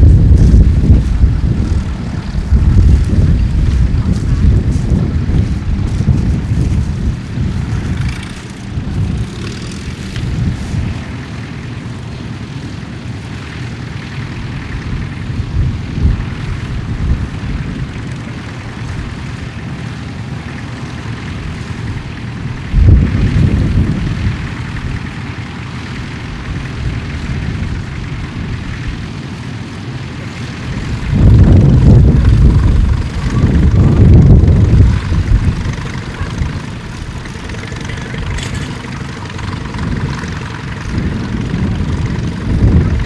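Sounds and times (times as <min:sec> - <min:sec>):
tractor engine rumbling: 0:00.0 - 0:43.0
wind buffeting microphone: 0:00.0 - 0:43.0.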